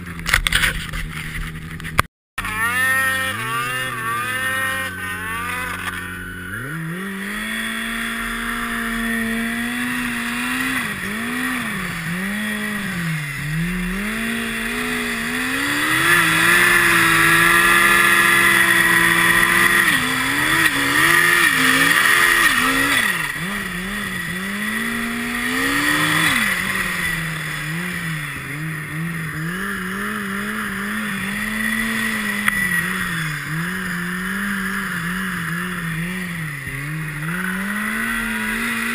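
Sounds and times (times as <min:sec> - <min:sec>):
high turbo whine: 0:00.0 - 0:38.9
snowmobile engine revving: 0:02.4 - 0:38.9.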